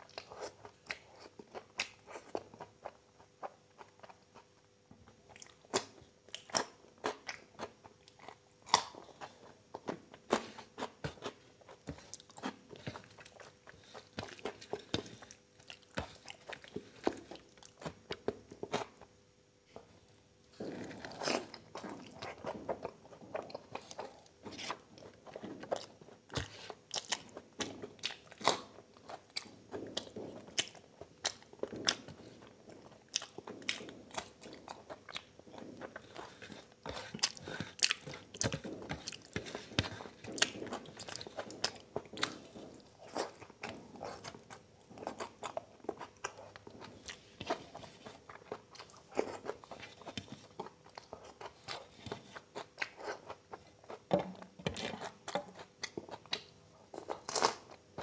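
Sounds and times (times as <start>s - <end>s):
man chewing food: 0.0s - 58.0s.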